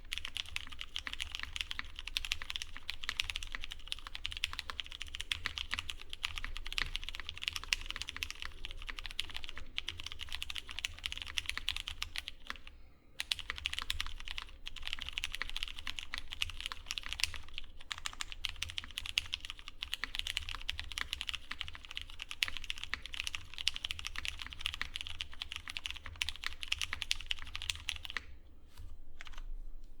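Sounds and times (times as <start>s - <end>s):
rapid keyboard key clacks: 0.0s - 12.6s, 13.2s - 28.3s.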